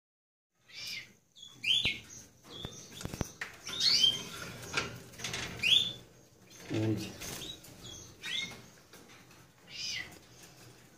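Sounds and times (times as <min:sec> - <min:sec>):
canaries chirping: 0:00.6 - 0:10.9.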